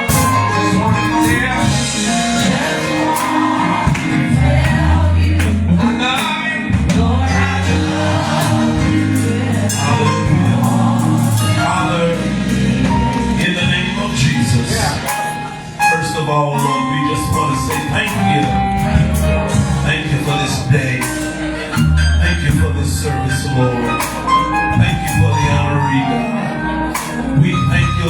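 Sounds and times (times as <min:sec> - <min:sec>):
percussion strikes: 0:00.0 - 0:25.7, 0:27.0 - 0:28.0
gospel singing: 0:00.0 - 0:28.0
sustained low bass notes: 0:00.0 - 0:28.0.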